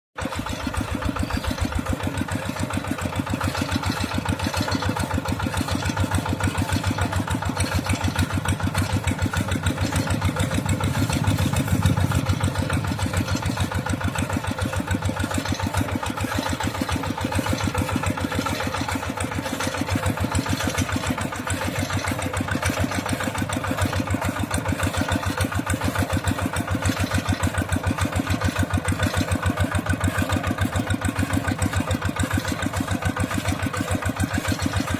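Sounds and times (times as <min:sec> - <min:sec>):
tractor engine chugging: 0:00.2 - 0:34.9.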